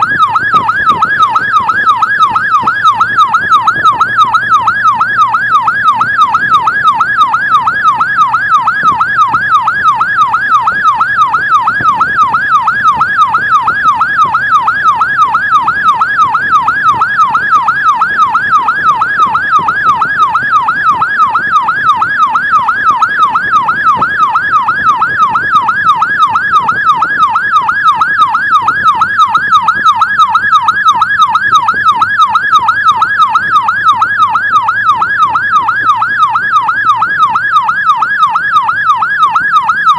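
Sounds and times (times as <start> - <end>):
emergency siren yelping: 0.0 - 39.9.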